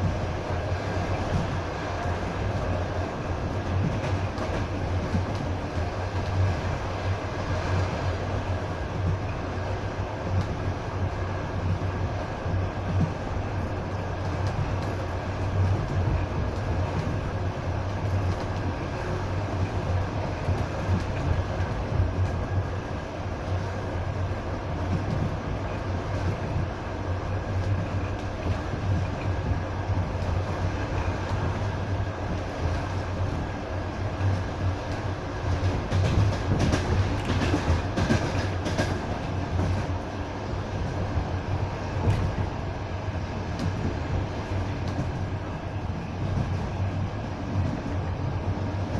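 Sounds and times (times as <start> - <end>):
train carriage rumbling on rails: 0.0 - 48.9.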